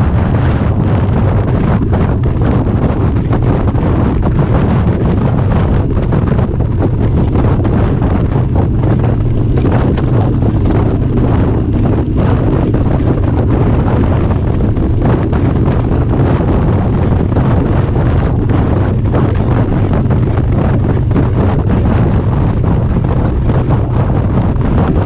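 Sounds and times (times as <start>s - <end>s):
motorcycle engine hum: 0.0s - 25.0s
wind buffeting microphone: 0.0s - 25.0s.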